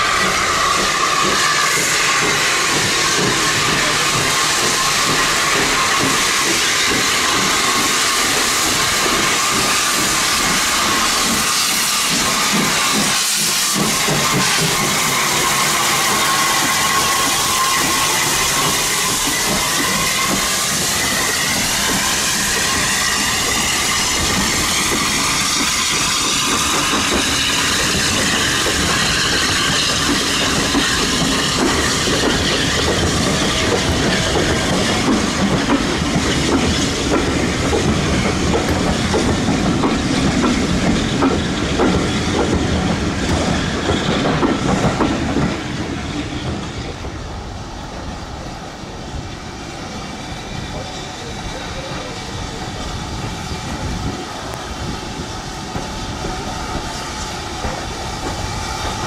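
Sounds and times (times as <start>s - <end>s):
train wheels clattering over rail joints: 0.0s - 47.3s, 49.2s - 59.0s.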